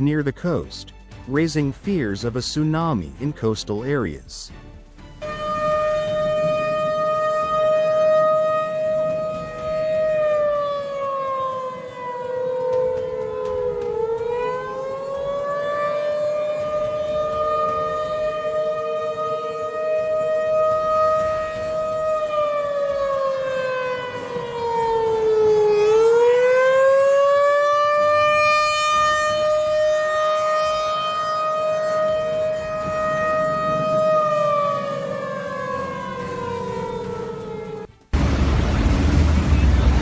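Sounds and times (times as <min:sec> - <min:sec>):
two-tone warning siren: 0:05.2 - 0:40.0.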